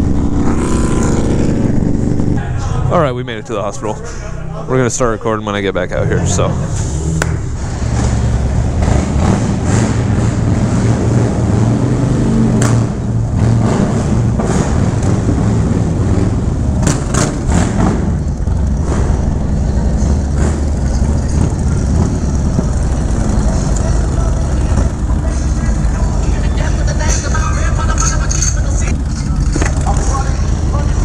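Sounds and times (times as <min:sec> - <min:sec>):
motorcycle engines rumbling: 0:00.0 - 0:31.0.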